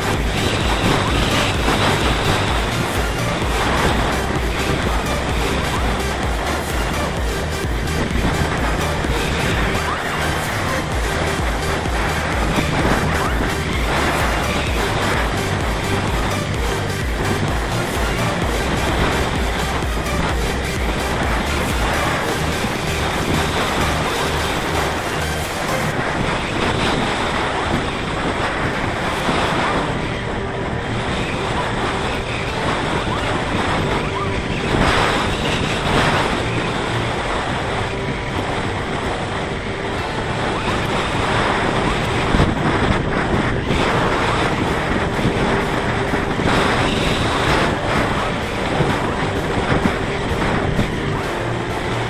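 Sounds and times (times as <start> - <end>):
wind rushing over microphone: 0.0 - 52.0.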